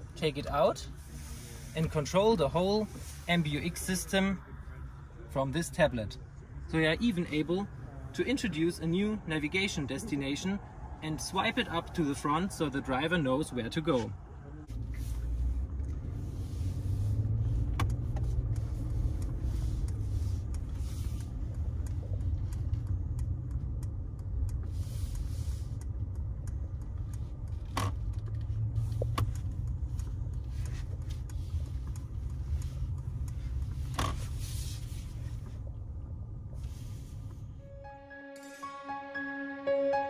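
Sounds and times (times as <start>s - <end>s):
car cabin road rumble: 0.0s - 37.6s.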